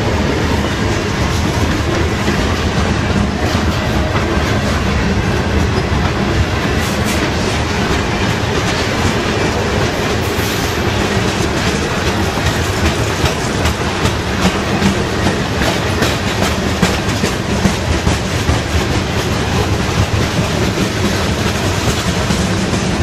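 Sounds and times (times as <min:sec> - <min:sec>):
steel wheels rumbling on rail: 0:00.0 - 0:23.0
wheels clicking over rail joints: 0:00.0 - 0:23.0.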